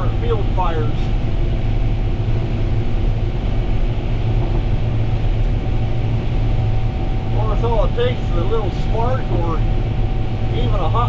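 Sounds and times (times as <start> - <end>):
combine harvester engine drone: 0.0 - 11.0
thin steady whine: 0.0 - 11.0.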